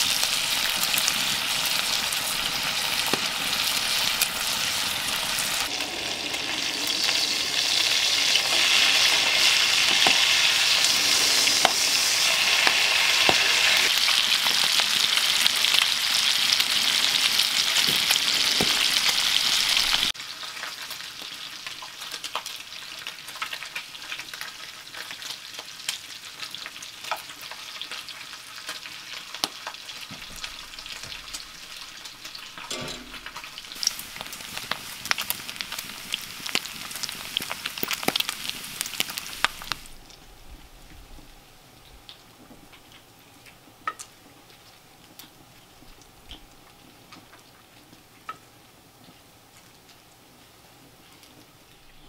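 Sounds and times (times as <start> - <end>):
bacon sizzling with pops: 0.0 - 52.0.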